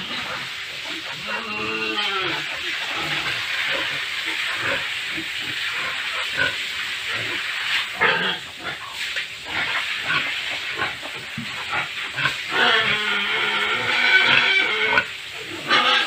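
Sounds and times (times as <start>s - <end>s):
hose spraying water: 0.0s - 16.0s
pigs grunting: 0.0s - 16.0s.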